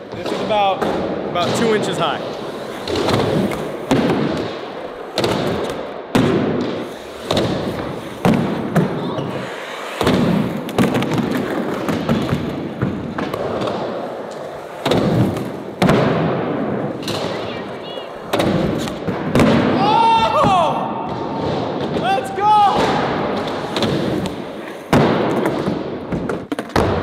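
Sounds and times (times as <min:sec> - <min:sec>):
skateboard landing slaps: 0:02.8 - 0:17.5, 0:18.2 - 0:22.0, 0:22.7 - 0:27.0.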